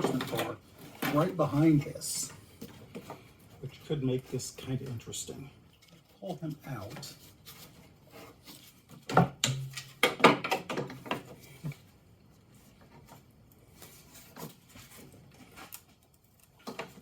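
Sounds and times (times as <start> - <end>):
faint handling noises: 0.0 - 9.2, 10.8 - 17.0.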